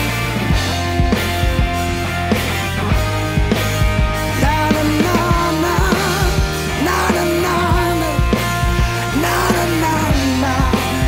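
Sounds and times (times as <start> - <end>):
bass guitar: 0.0 - 11.0
drum kit: 0.0 - 11.0
electric guitars: 0.0 - 11.0
pitch-bending guitar lead line: 0.0 - 11.0.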